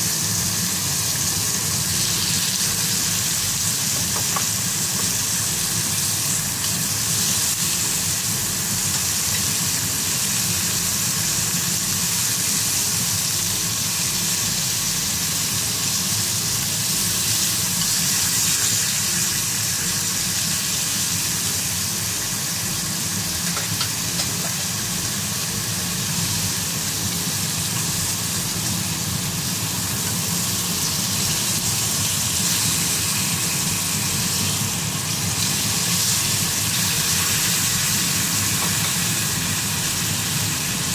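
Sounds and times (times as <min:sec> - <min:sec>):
beef sizzling in hot oil: 0:00.0 - 0:40.9.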